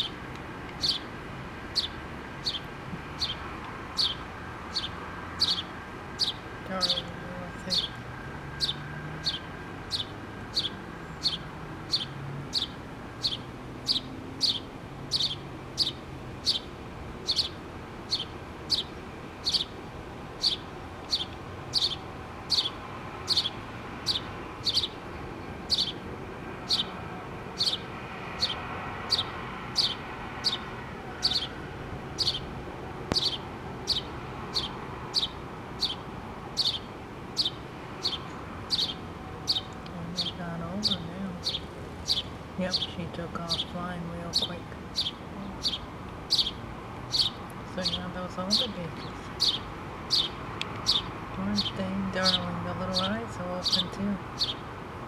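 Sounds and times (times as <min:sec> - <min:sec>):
sparrow chirping: 0:00.0 - 0:54.8.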